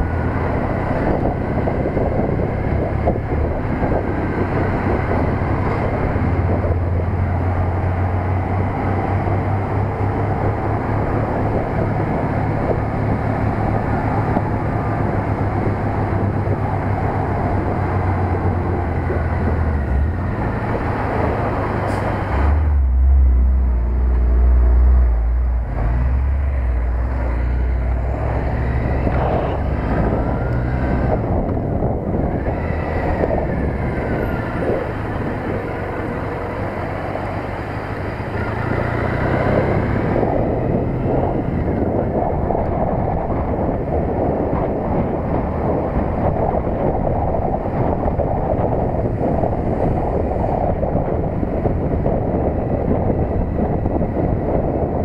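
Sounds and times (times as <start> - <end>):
deep drone: 0.0 - 55.0
wind noise on microphone: 0.0 - 55.0.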